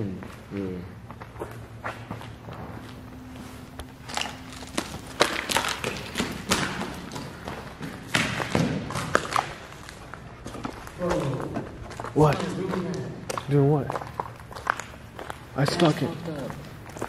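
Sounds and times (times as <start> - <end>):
footsteps crunching on rubble and glass: 0.2 - 17.0.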